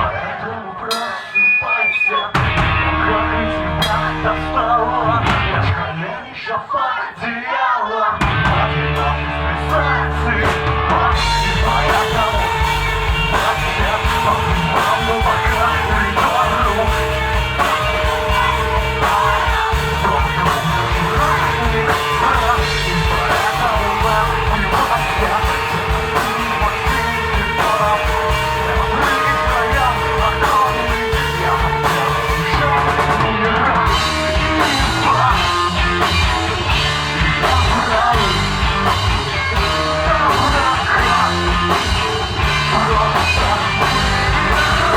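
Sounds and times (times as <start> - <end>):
person singing and shouting: 0.0 - 44.9
live rock band playing: 0.9 - 6.0, 8.2 - 44.9.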